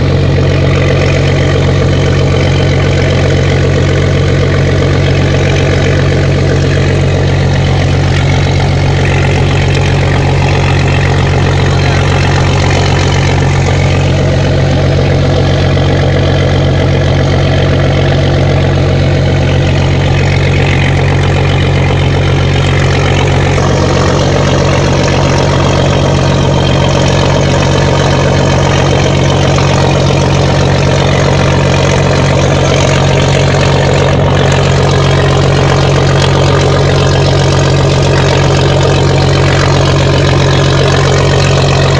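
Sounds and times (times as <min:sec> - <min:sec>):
heavy engine droning: 0:00.0 - 0:41.9.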